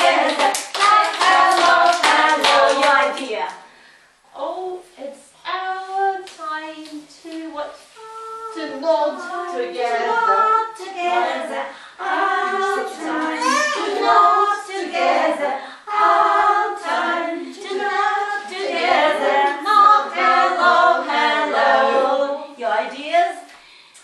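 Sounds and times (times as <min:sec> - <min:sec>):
women singing unaccompanied: 0:00.0 - 0:03.6, 0:05.5 - 0:23.5.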